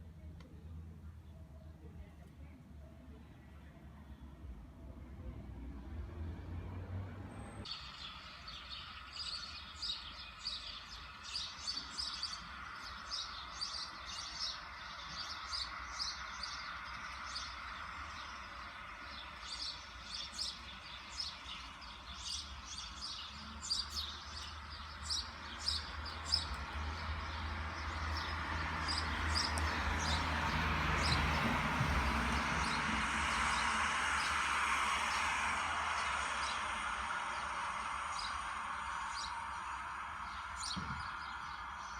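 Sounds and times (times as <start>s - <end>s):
road traffic hum: 0.0s - 41.9s
songbirds chirping: 0.0s - 41.9s.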